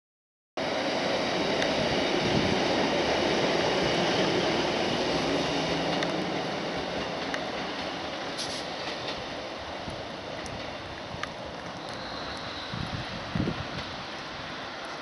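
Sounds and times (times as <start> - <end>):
diesel train running past: 0.6 - 15.0.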